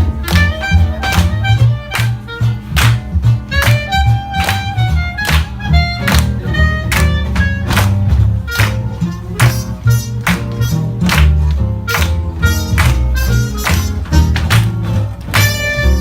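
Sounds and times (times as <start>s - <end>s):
bass line: 0.0s - 16.0s
strummed guitar: 0.0s - 16.0s
swing band playing: 0.0s - 16.0s.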